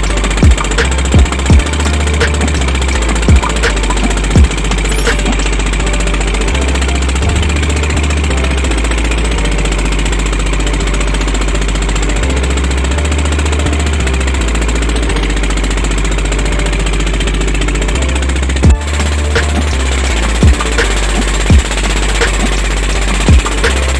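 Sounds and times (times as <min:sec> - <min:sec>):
motorboat engine chugging: 0:00.0 - 0:23.9.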